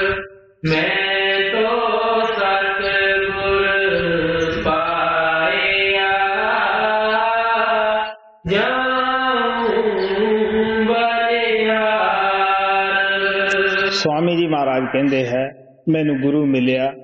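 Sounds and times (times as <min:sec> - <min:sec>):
man chanting a hymn: 0:00.0 - 0:17.0.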